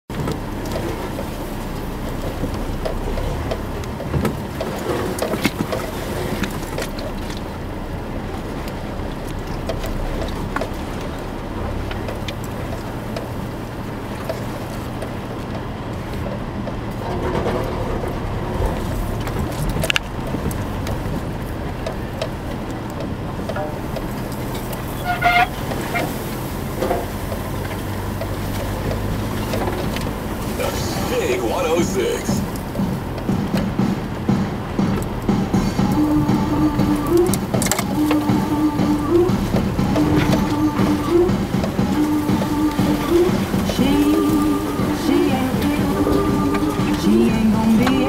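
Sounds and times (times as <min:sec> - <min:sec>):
car engine drone: 0:00.0 - 0:48.0
car body knocks and rattles: 0:00.1 - 0:30.6, 0:32.3 - 0:48.0.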